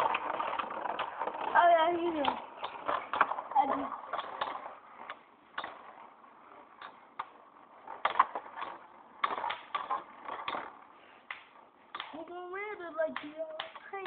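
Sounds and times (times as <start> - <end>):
spinning tops clacking together: 0.0 - 14.0.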